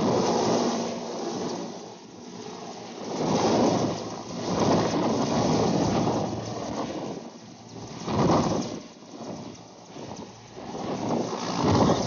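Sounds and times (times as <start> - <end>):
helicopter rotor noise: 0.0 - 12.0
wind buffeting microphone: 0.0 - 12.0.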